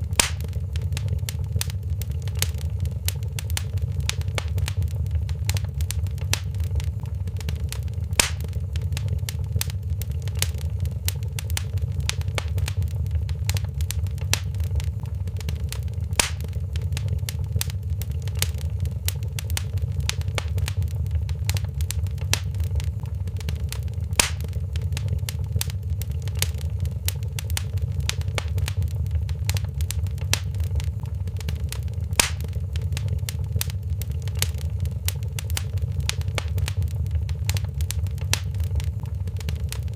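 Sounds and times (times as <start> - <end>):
fireplace crackling: 0.0 - 39.9
loud fire pops: 0.0 - 39.9
low fire rumble: 0.0 - 39.9.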